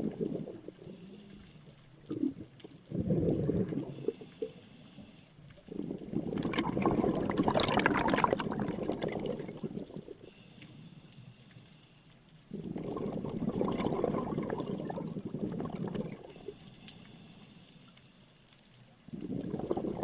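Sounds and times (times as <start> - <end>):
underwater bubbles gurgling: 0.0 - 10.7, 12.3 - 20.0.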